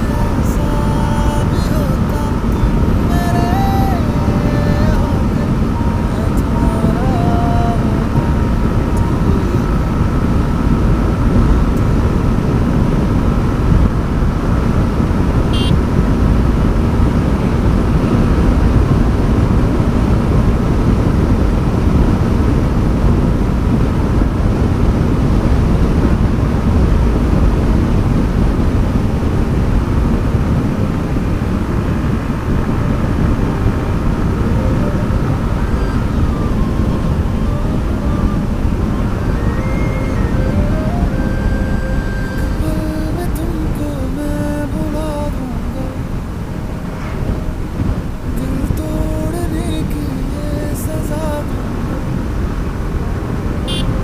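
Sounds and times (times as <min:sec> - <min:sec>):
motorcycle engine humming: 0:00.0 - 0:54.0
wind rush over microphone: 0:00.0 - 0:54.0.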